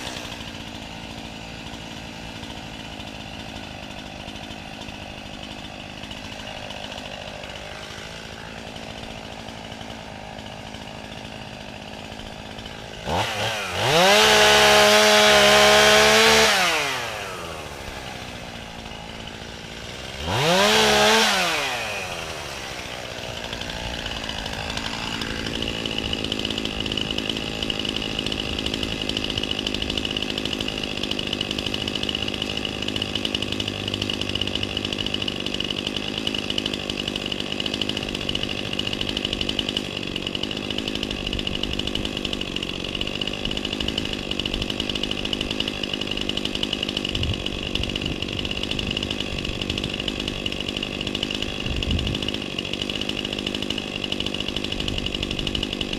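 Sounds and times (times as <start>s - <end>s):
chainsaw engine revving: 0.0s - 55.9s.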